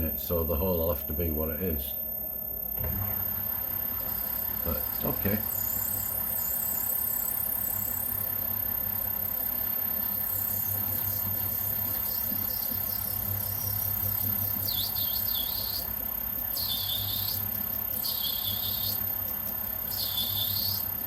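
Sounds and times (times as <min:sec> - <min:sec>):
lathe humming: 0:00.0 - 0:21.0.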